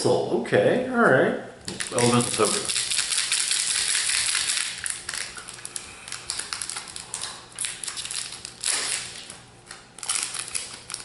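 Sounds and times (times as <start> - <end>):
foil wrapper crinkling and tearing: 1.7 - 11.0.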